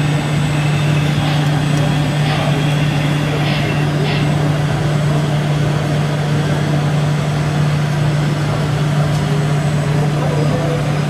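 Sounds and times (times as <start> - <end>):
model truck engine droning: 0.0 - 11.0.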